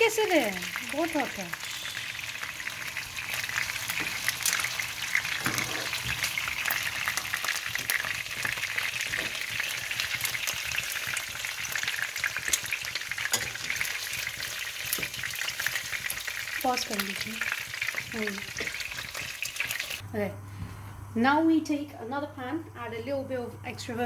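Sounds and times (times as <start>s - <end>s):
chicken frying in oil: 0.0s - 20.0s.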